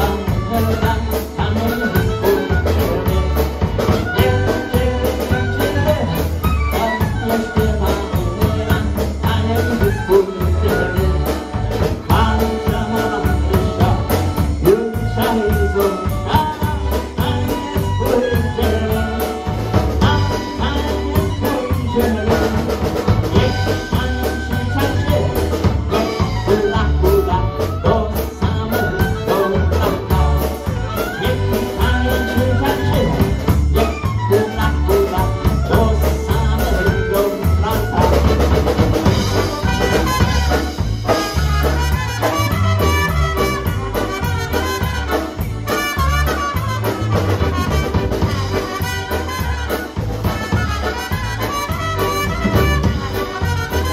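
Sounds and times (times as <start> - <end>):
accordion: 0.0 - 53.9
drum kit beat: 0.0 - 53.9
guitar: 0.0 - 53.9
live dance band playing: 0.0 - 53.9
trumpet: 0.0 - 53.9.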